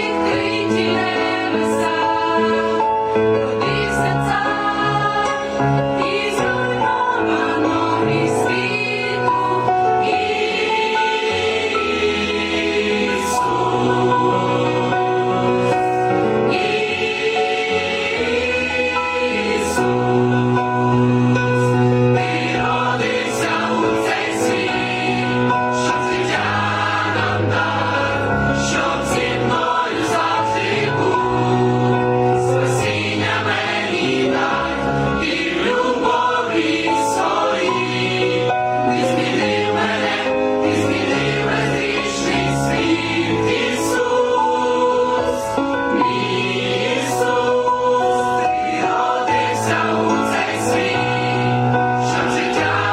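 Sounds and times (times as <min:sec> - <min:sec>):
choir singing a carol: 0:00.0 - 0:52.9.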